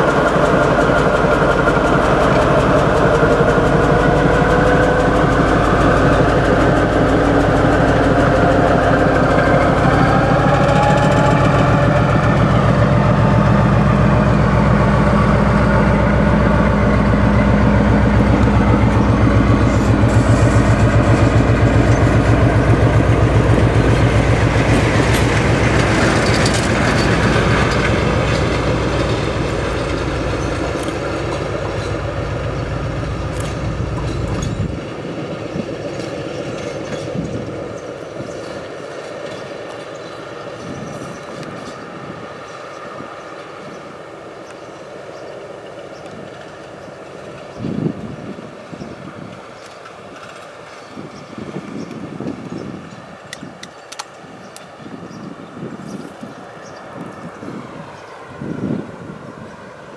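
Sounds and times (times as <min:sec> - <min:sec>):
diesel train engine throbbing: 0:00.0 - 0:59.9.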